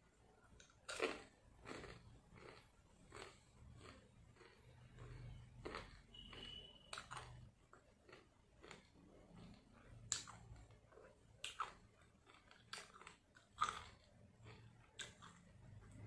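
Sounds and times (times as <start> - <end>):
chewing crunchy food: 0.5 - 16.0.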